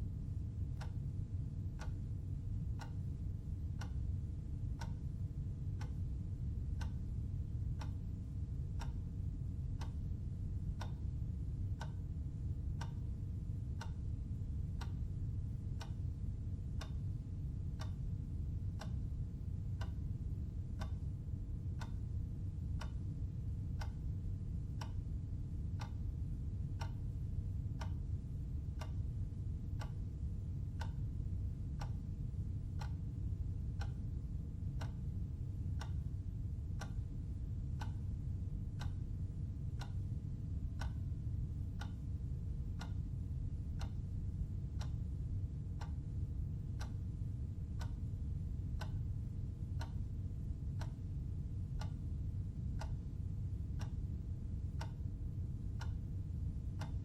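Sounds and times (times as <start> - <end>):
low hum: 0.0 - 57.0
clock ticking with ringing tone: 0.5 - 39.1, 39.7 - 47.1, 47.7 - 57.0.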